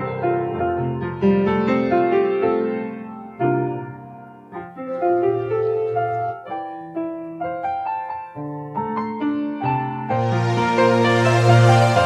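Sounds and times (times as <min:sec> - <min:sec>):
piano playing: 0:00.0 - 0:12.0.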